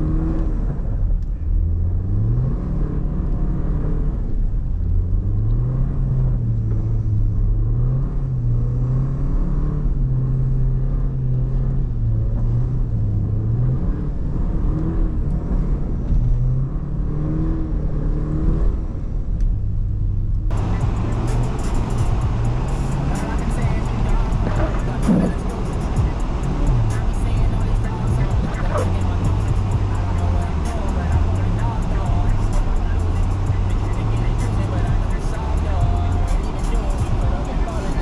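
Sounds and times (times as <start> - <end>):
car engine accelerating: 0.0 - 38.0
low road rumble: 0.0 - 38.0.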